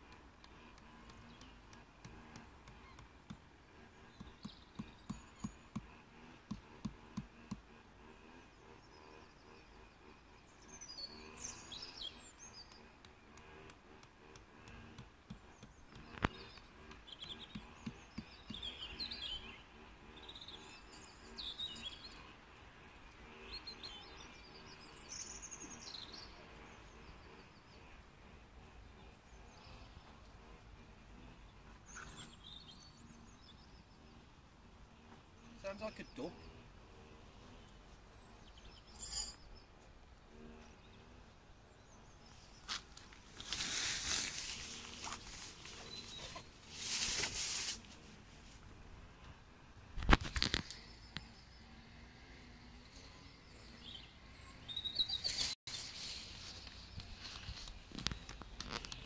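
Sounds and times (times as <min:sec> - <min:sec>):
faint outdoor background noise: 0:00.0 - 0:59.0
small birds chirping: 0:00.0 - 0:59.0.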